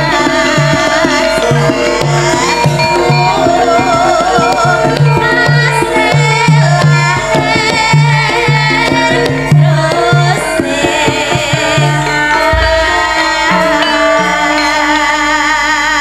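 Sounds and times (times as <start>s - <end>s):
hand drum strokes: 0.0s - 14.7s
gamelan ensemble: 0.0s - 16.0s
woman singing into microphone: 0.0s - 16.0s.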